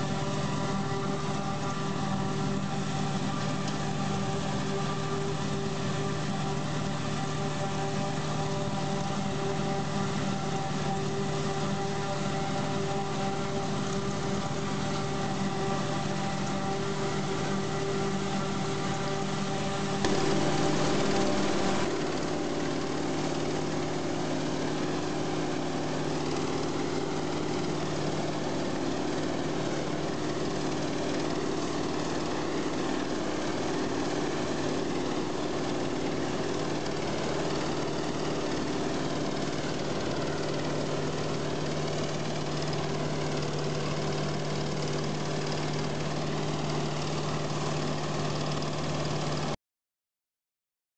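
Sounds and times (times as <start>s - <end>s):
forage harvester drone: 0.0s - 49.6s.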